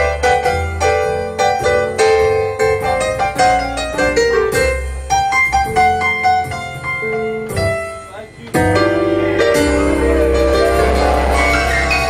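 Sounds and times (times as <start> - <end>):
solo piano: 0.0 - 12.0.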